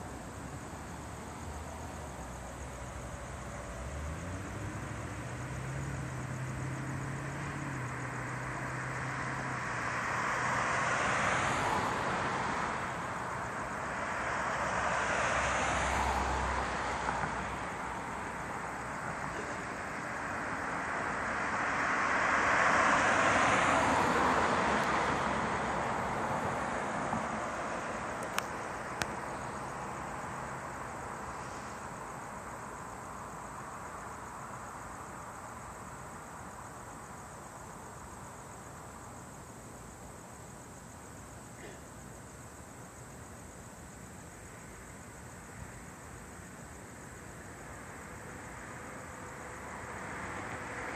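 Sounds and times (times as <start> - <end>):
cars passing: 0.0 - 50.9
distant traffic hum: 0.0 - 50.9.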